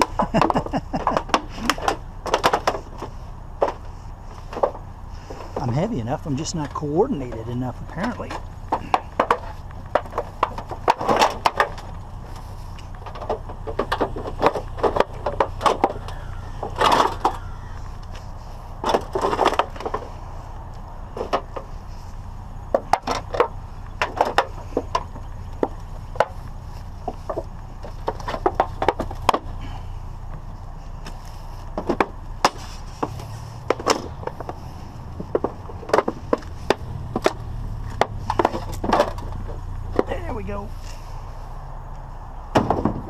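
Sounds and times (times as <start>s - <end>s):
scrap knocking and clanking: 0.0s - 41.4s, 42.5s - 43.0s
steady low hum: 0.0s - 43.0s.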